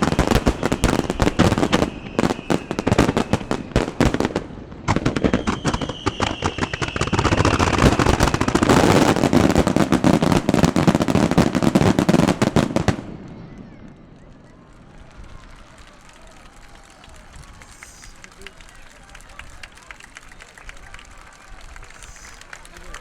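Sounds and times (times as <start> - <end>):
descending firework whistle: 0.0 - 18.6
fireworks bangs and crackles: 0.0 - 23.0.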